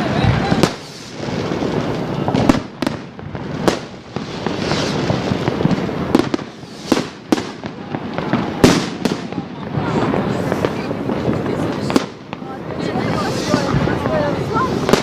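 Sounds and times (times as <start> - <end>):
fireworks crackle and rumble: 0.0 - 15.0
sharp firework bangs: 0.0 - 15.0.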